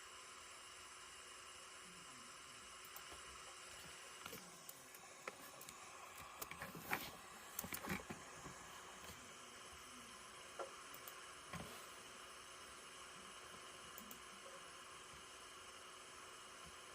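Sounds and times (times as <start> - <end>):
faint steady hiss: 0.0 - 16.9.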